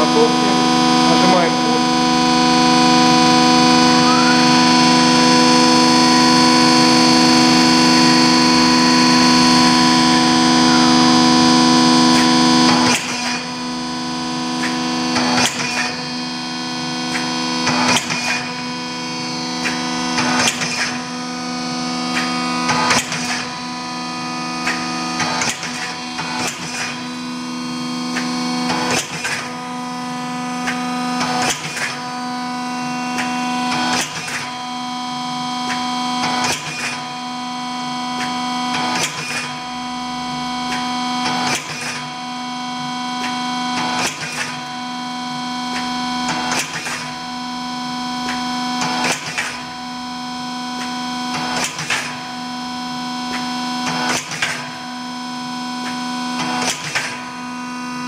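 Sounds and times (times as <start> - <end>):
hydraulic power unit humming: 0.0 - 58.0.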